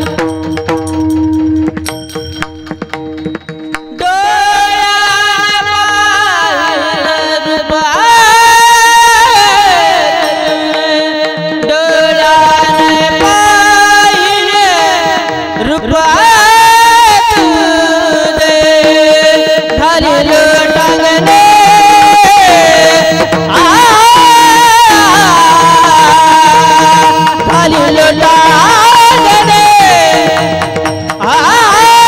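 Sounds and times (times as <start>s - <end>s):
person singing held ornamented notes: 0.0s - 32.0s.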